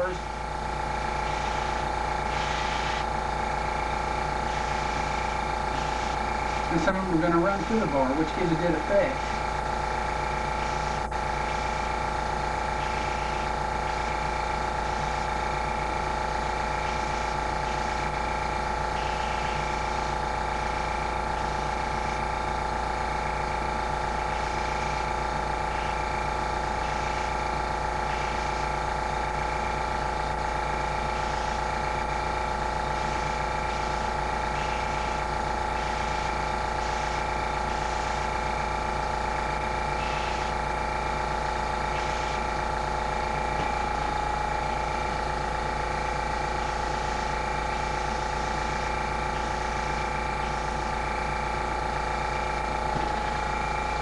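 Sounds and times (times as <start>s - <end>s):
compressor humming: 0.0s - 54.0s
airbrush air hisses: 1.0s - 39.2s, 39.8s - 40.8s, 41.4s - 51.2s.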